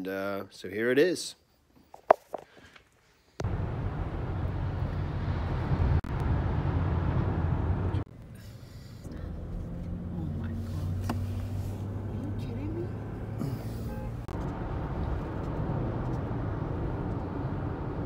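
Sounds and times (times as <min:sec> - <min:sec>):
car cabin road and engine rumble: 0:03.4 - 0:18.0.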